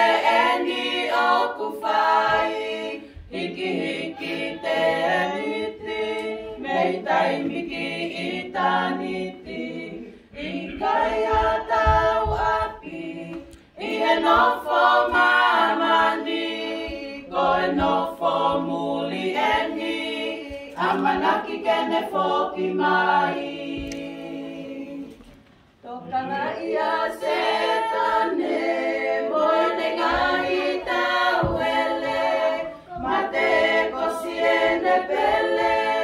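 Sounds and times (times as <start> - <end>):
women's choir singing a hymn: 0.0 - 36.0.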